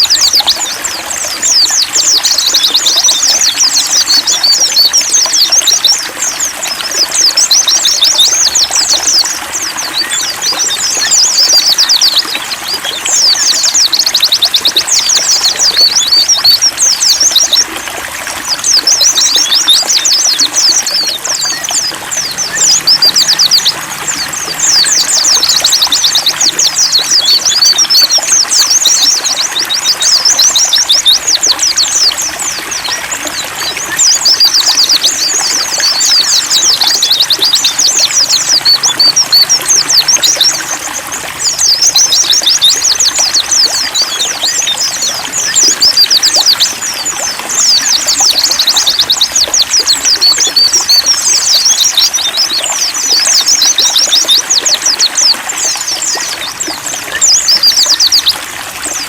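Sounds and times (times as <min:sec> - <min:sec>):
bird twittering: 0:00.0 - 0:59.0
trickling water: 0:00.0 - 0:59.0.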